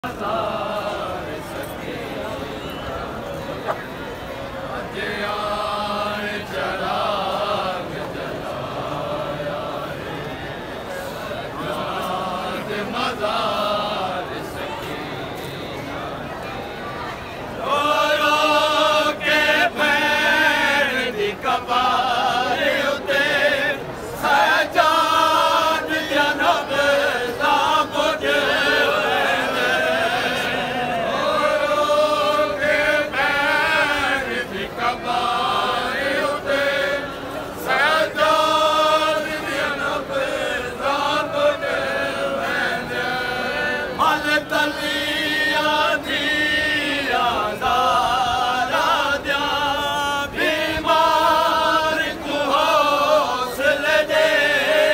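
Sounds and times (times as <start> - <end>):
men chanting in unison: 4.9 - 9.9, 11.6 - 14.8, 17.6 - 54.9.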